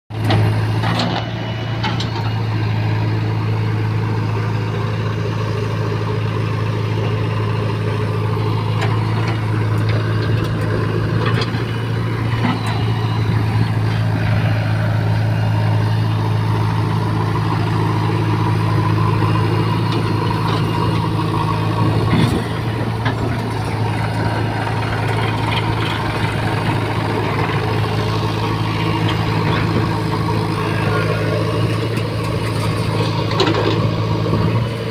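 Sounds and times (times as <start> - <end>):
diesel engine humming: 0.1 - 34.9.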